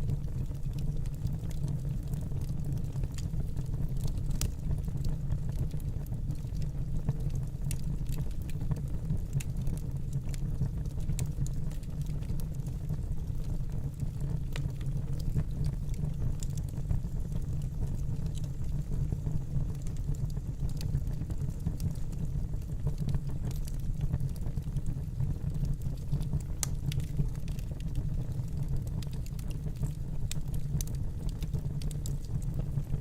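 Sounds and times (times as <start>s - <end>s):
fire crackles and pops: 0.0s - 33.0s
low rumble of flames: 0.0s - 33.0s.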